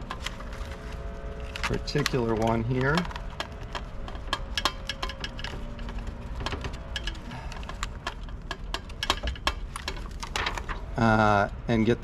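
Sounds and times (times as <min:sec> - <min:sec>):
plastic plugs clicking and rattling: 0:00.0 - 0:10.8.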